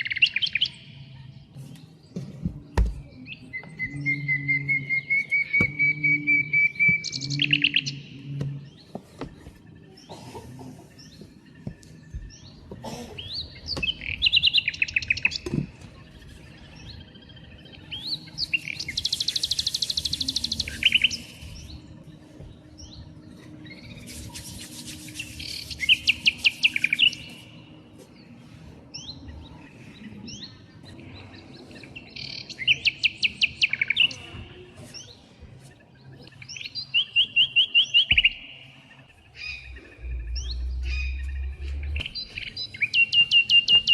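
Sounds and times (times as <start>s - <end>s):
songbird singing trills: 0.0s - 43.9s.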